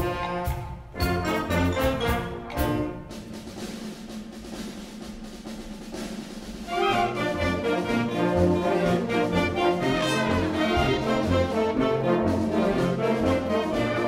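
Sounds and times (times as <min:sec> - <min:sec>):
wind band playing: 0:00.0 - 0:14.0.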